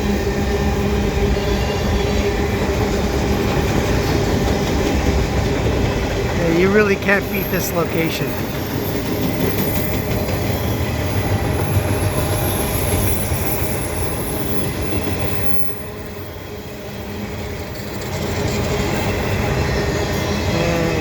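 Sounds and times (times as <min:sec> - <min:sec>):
freight train wheels rumbling on rails: 0:00.0 - 0:07.5, 0:08.2 - 0:20.5.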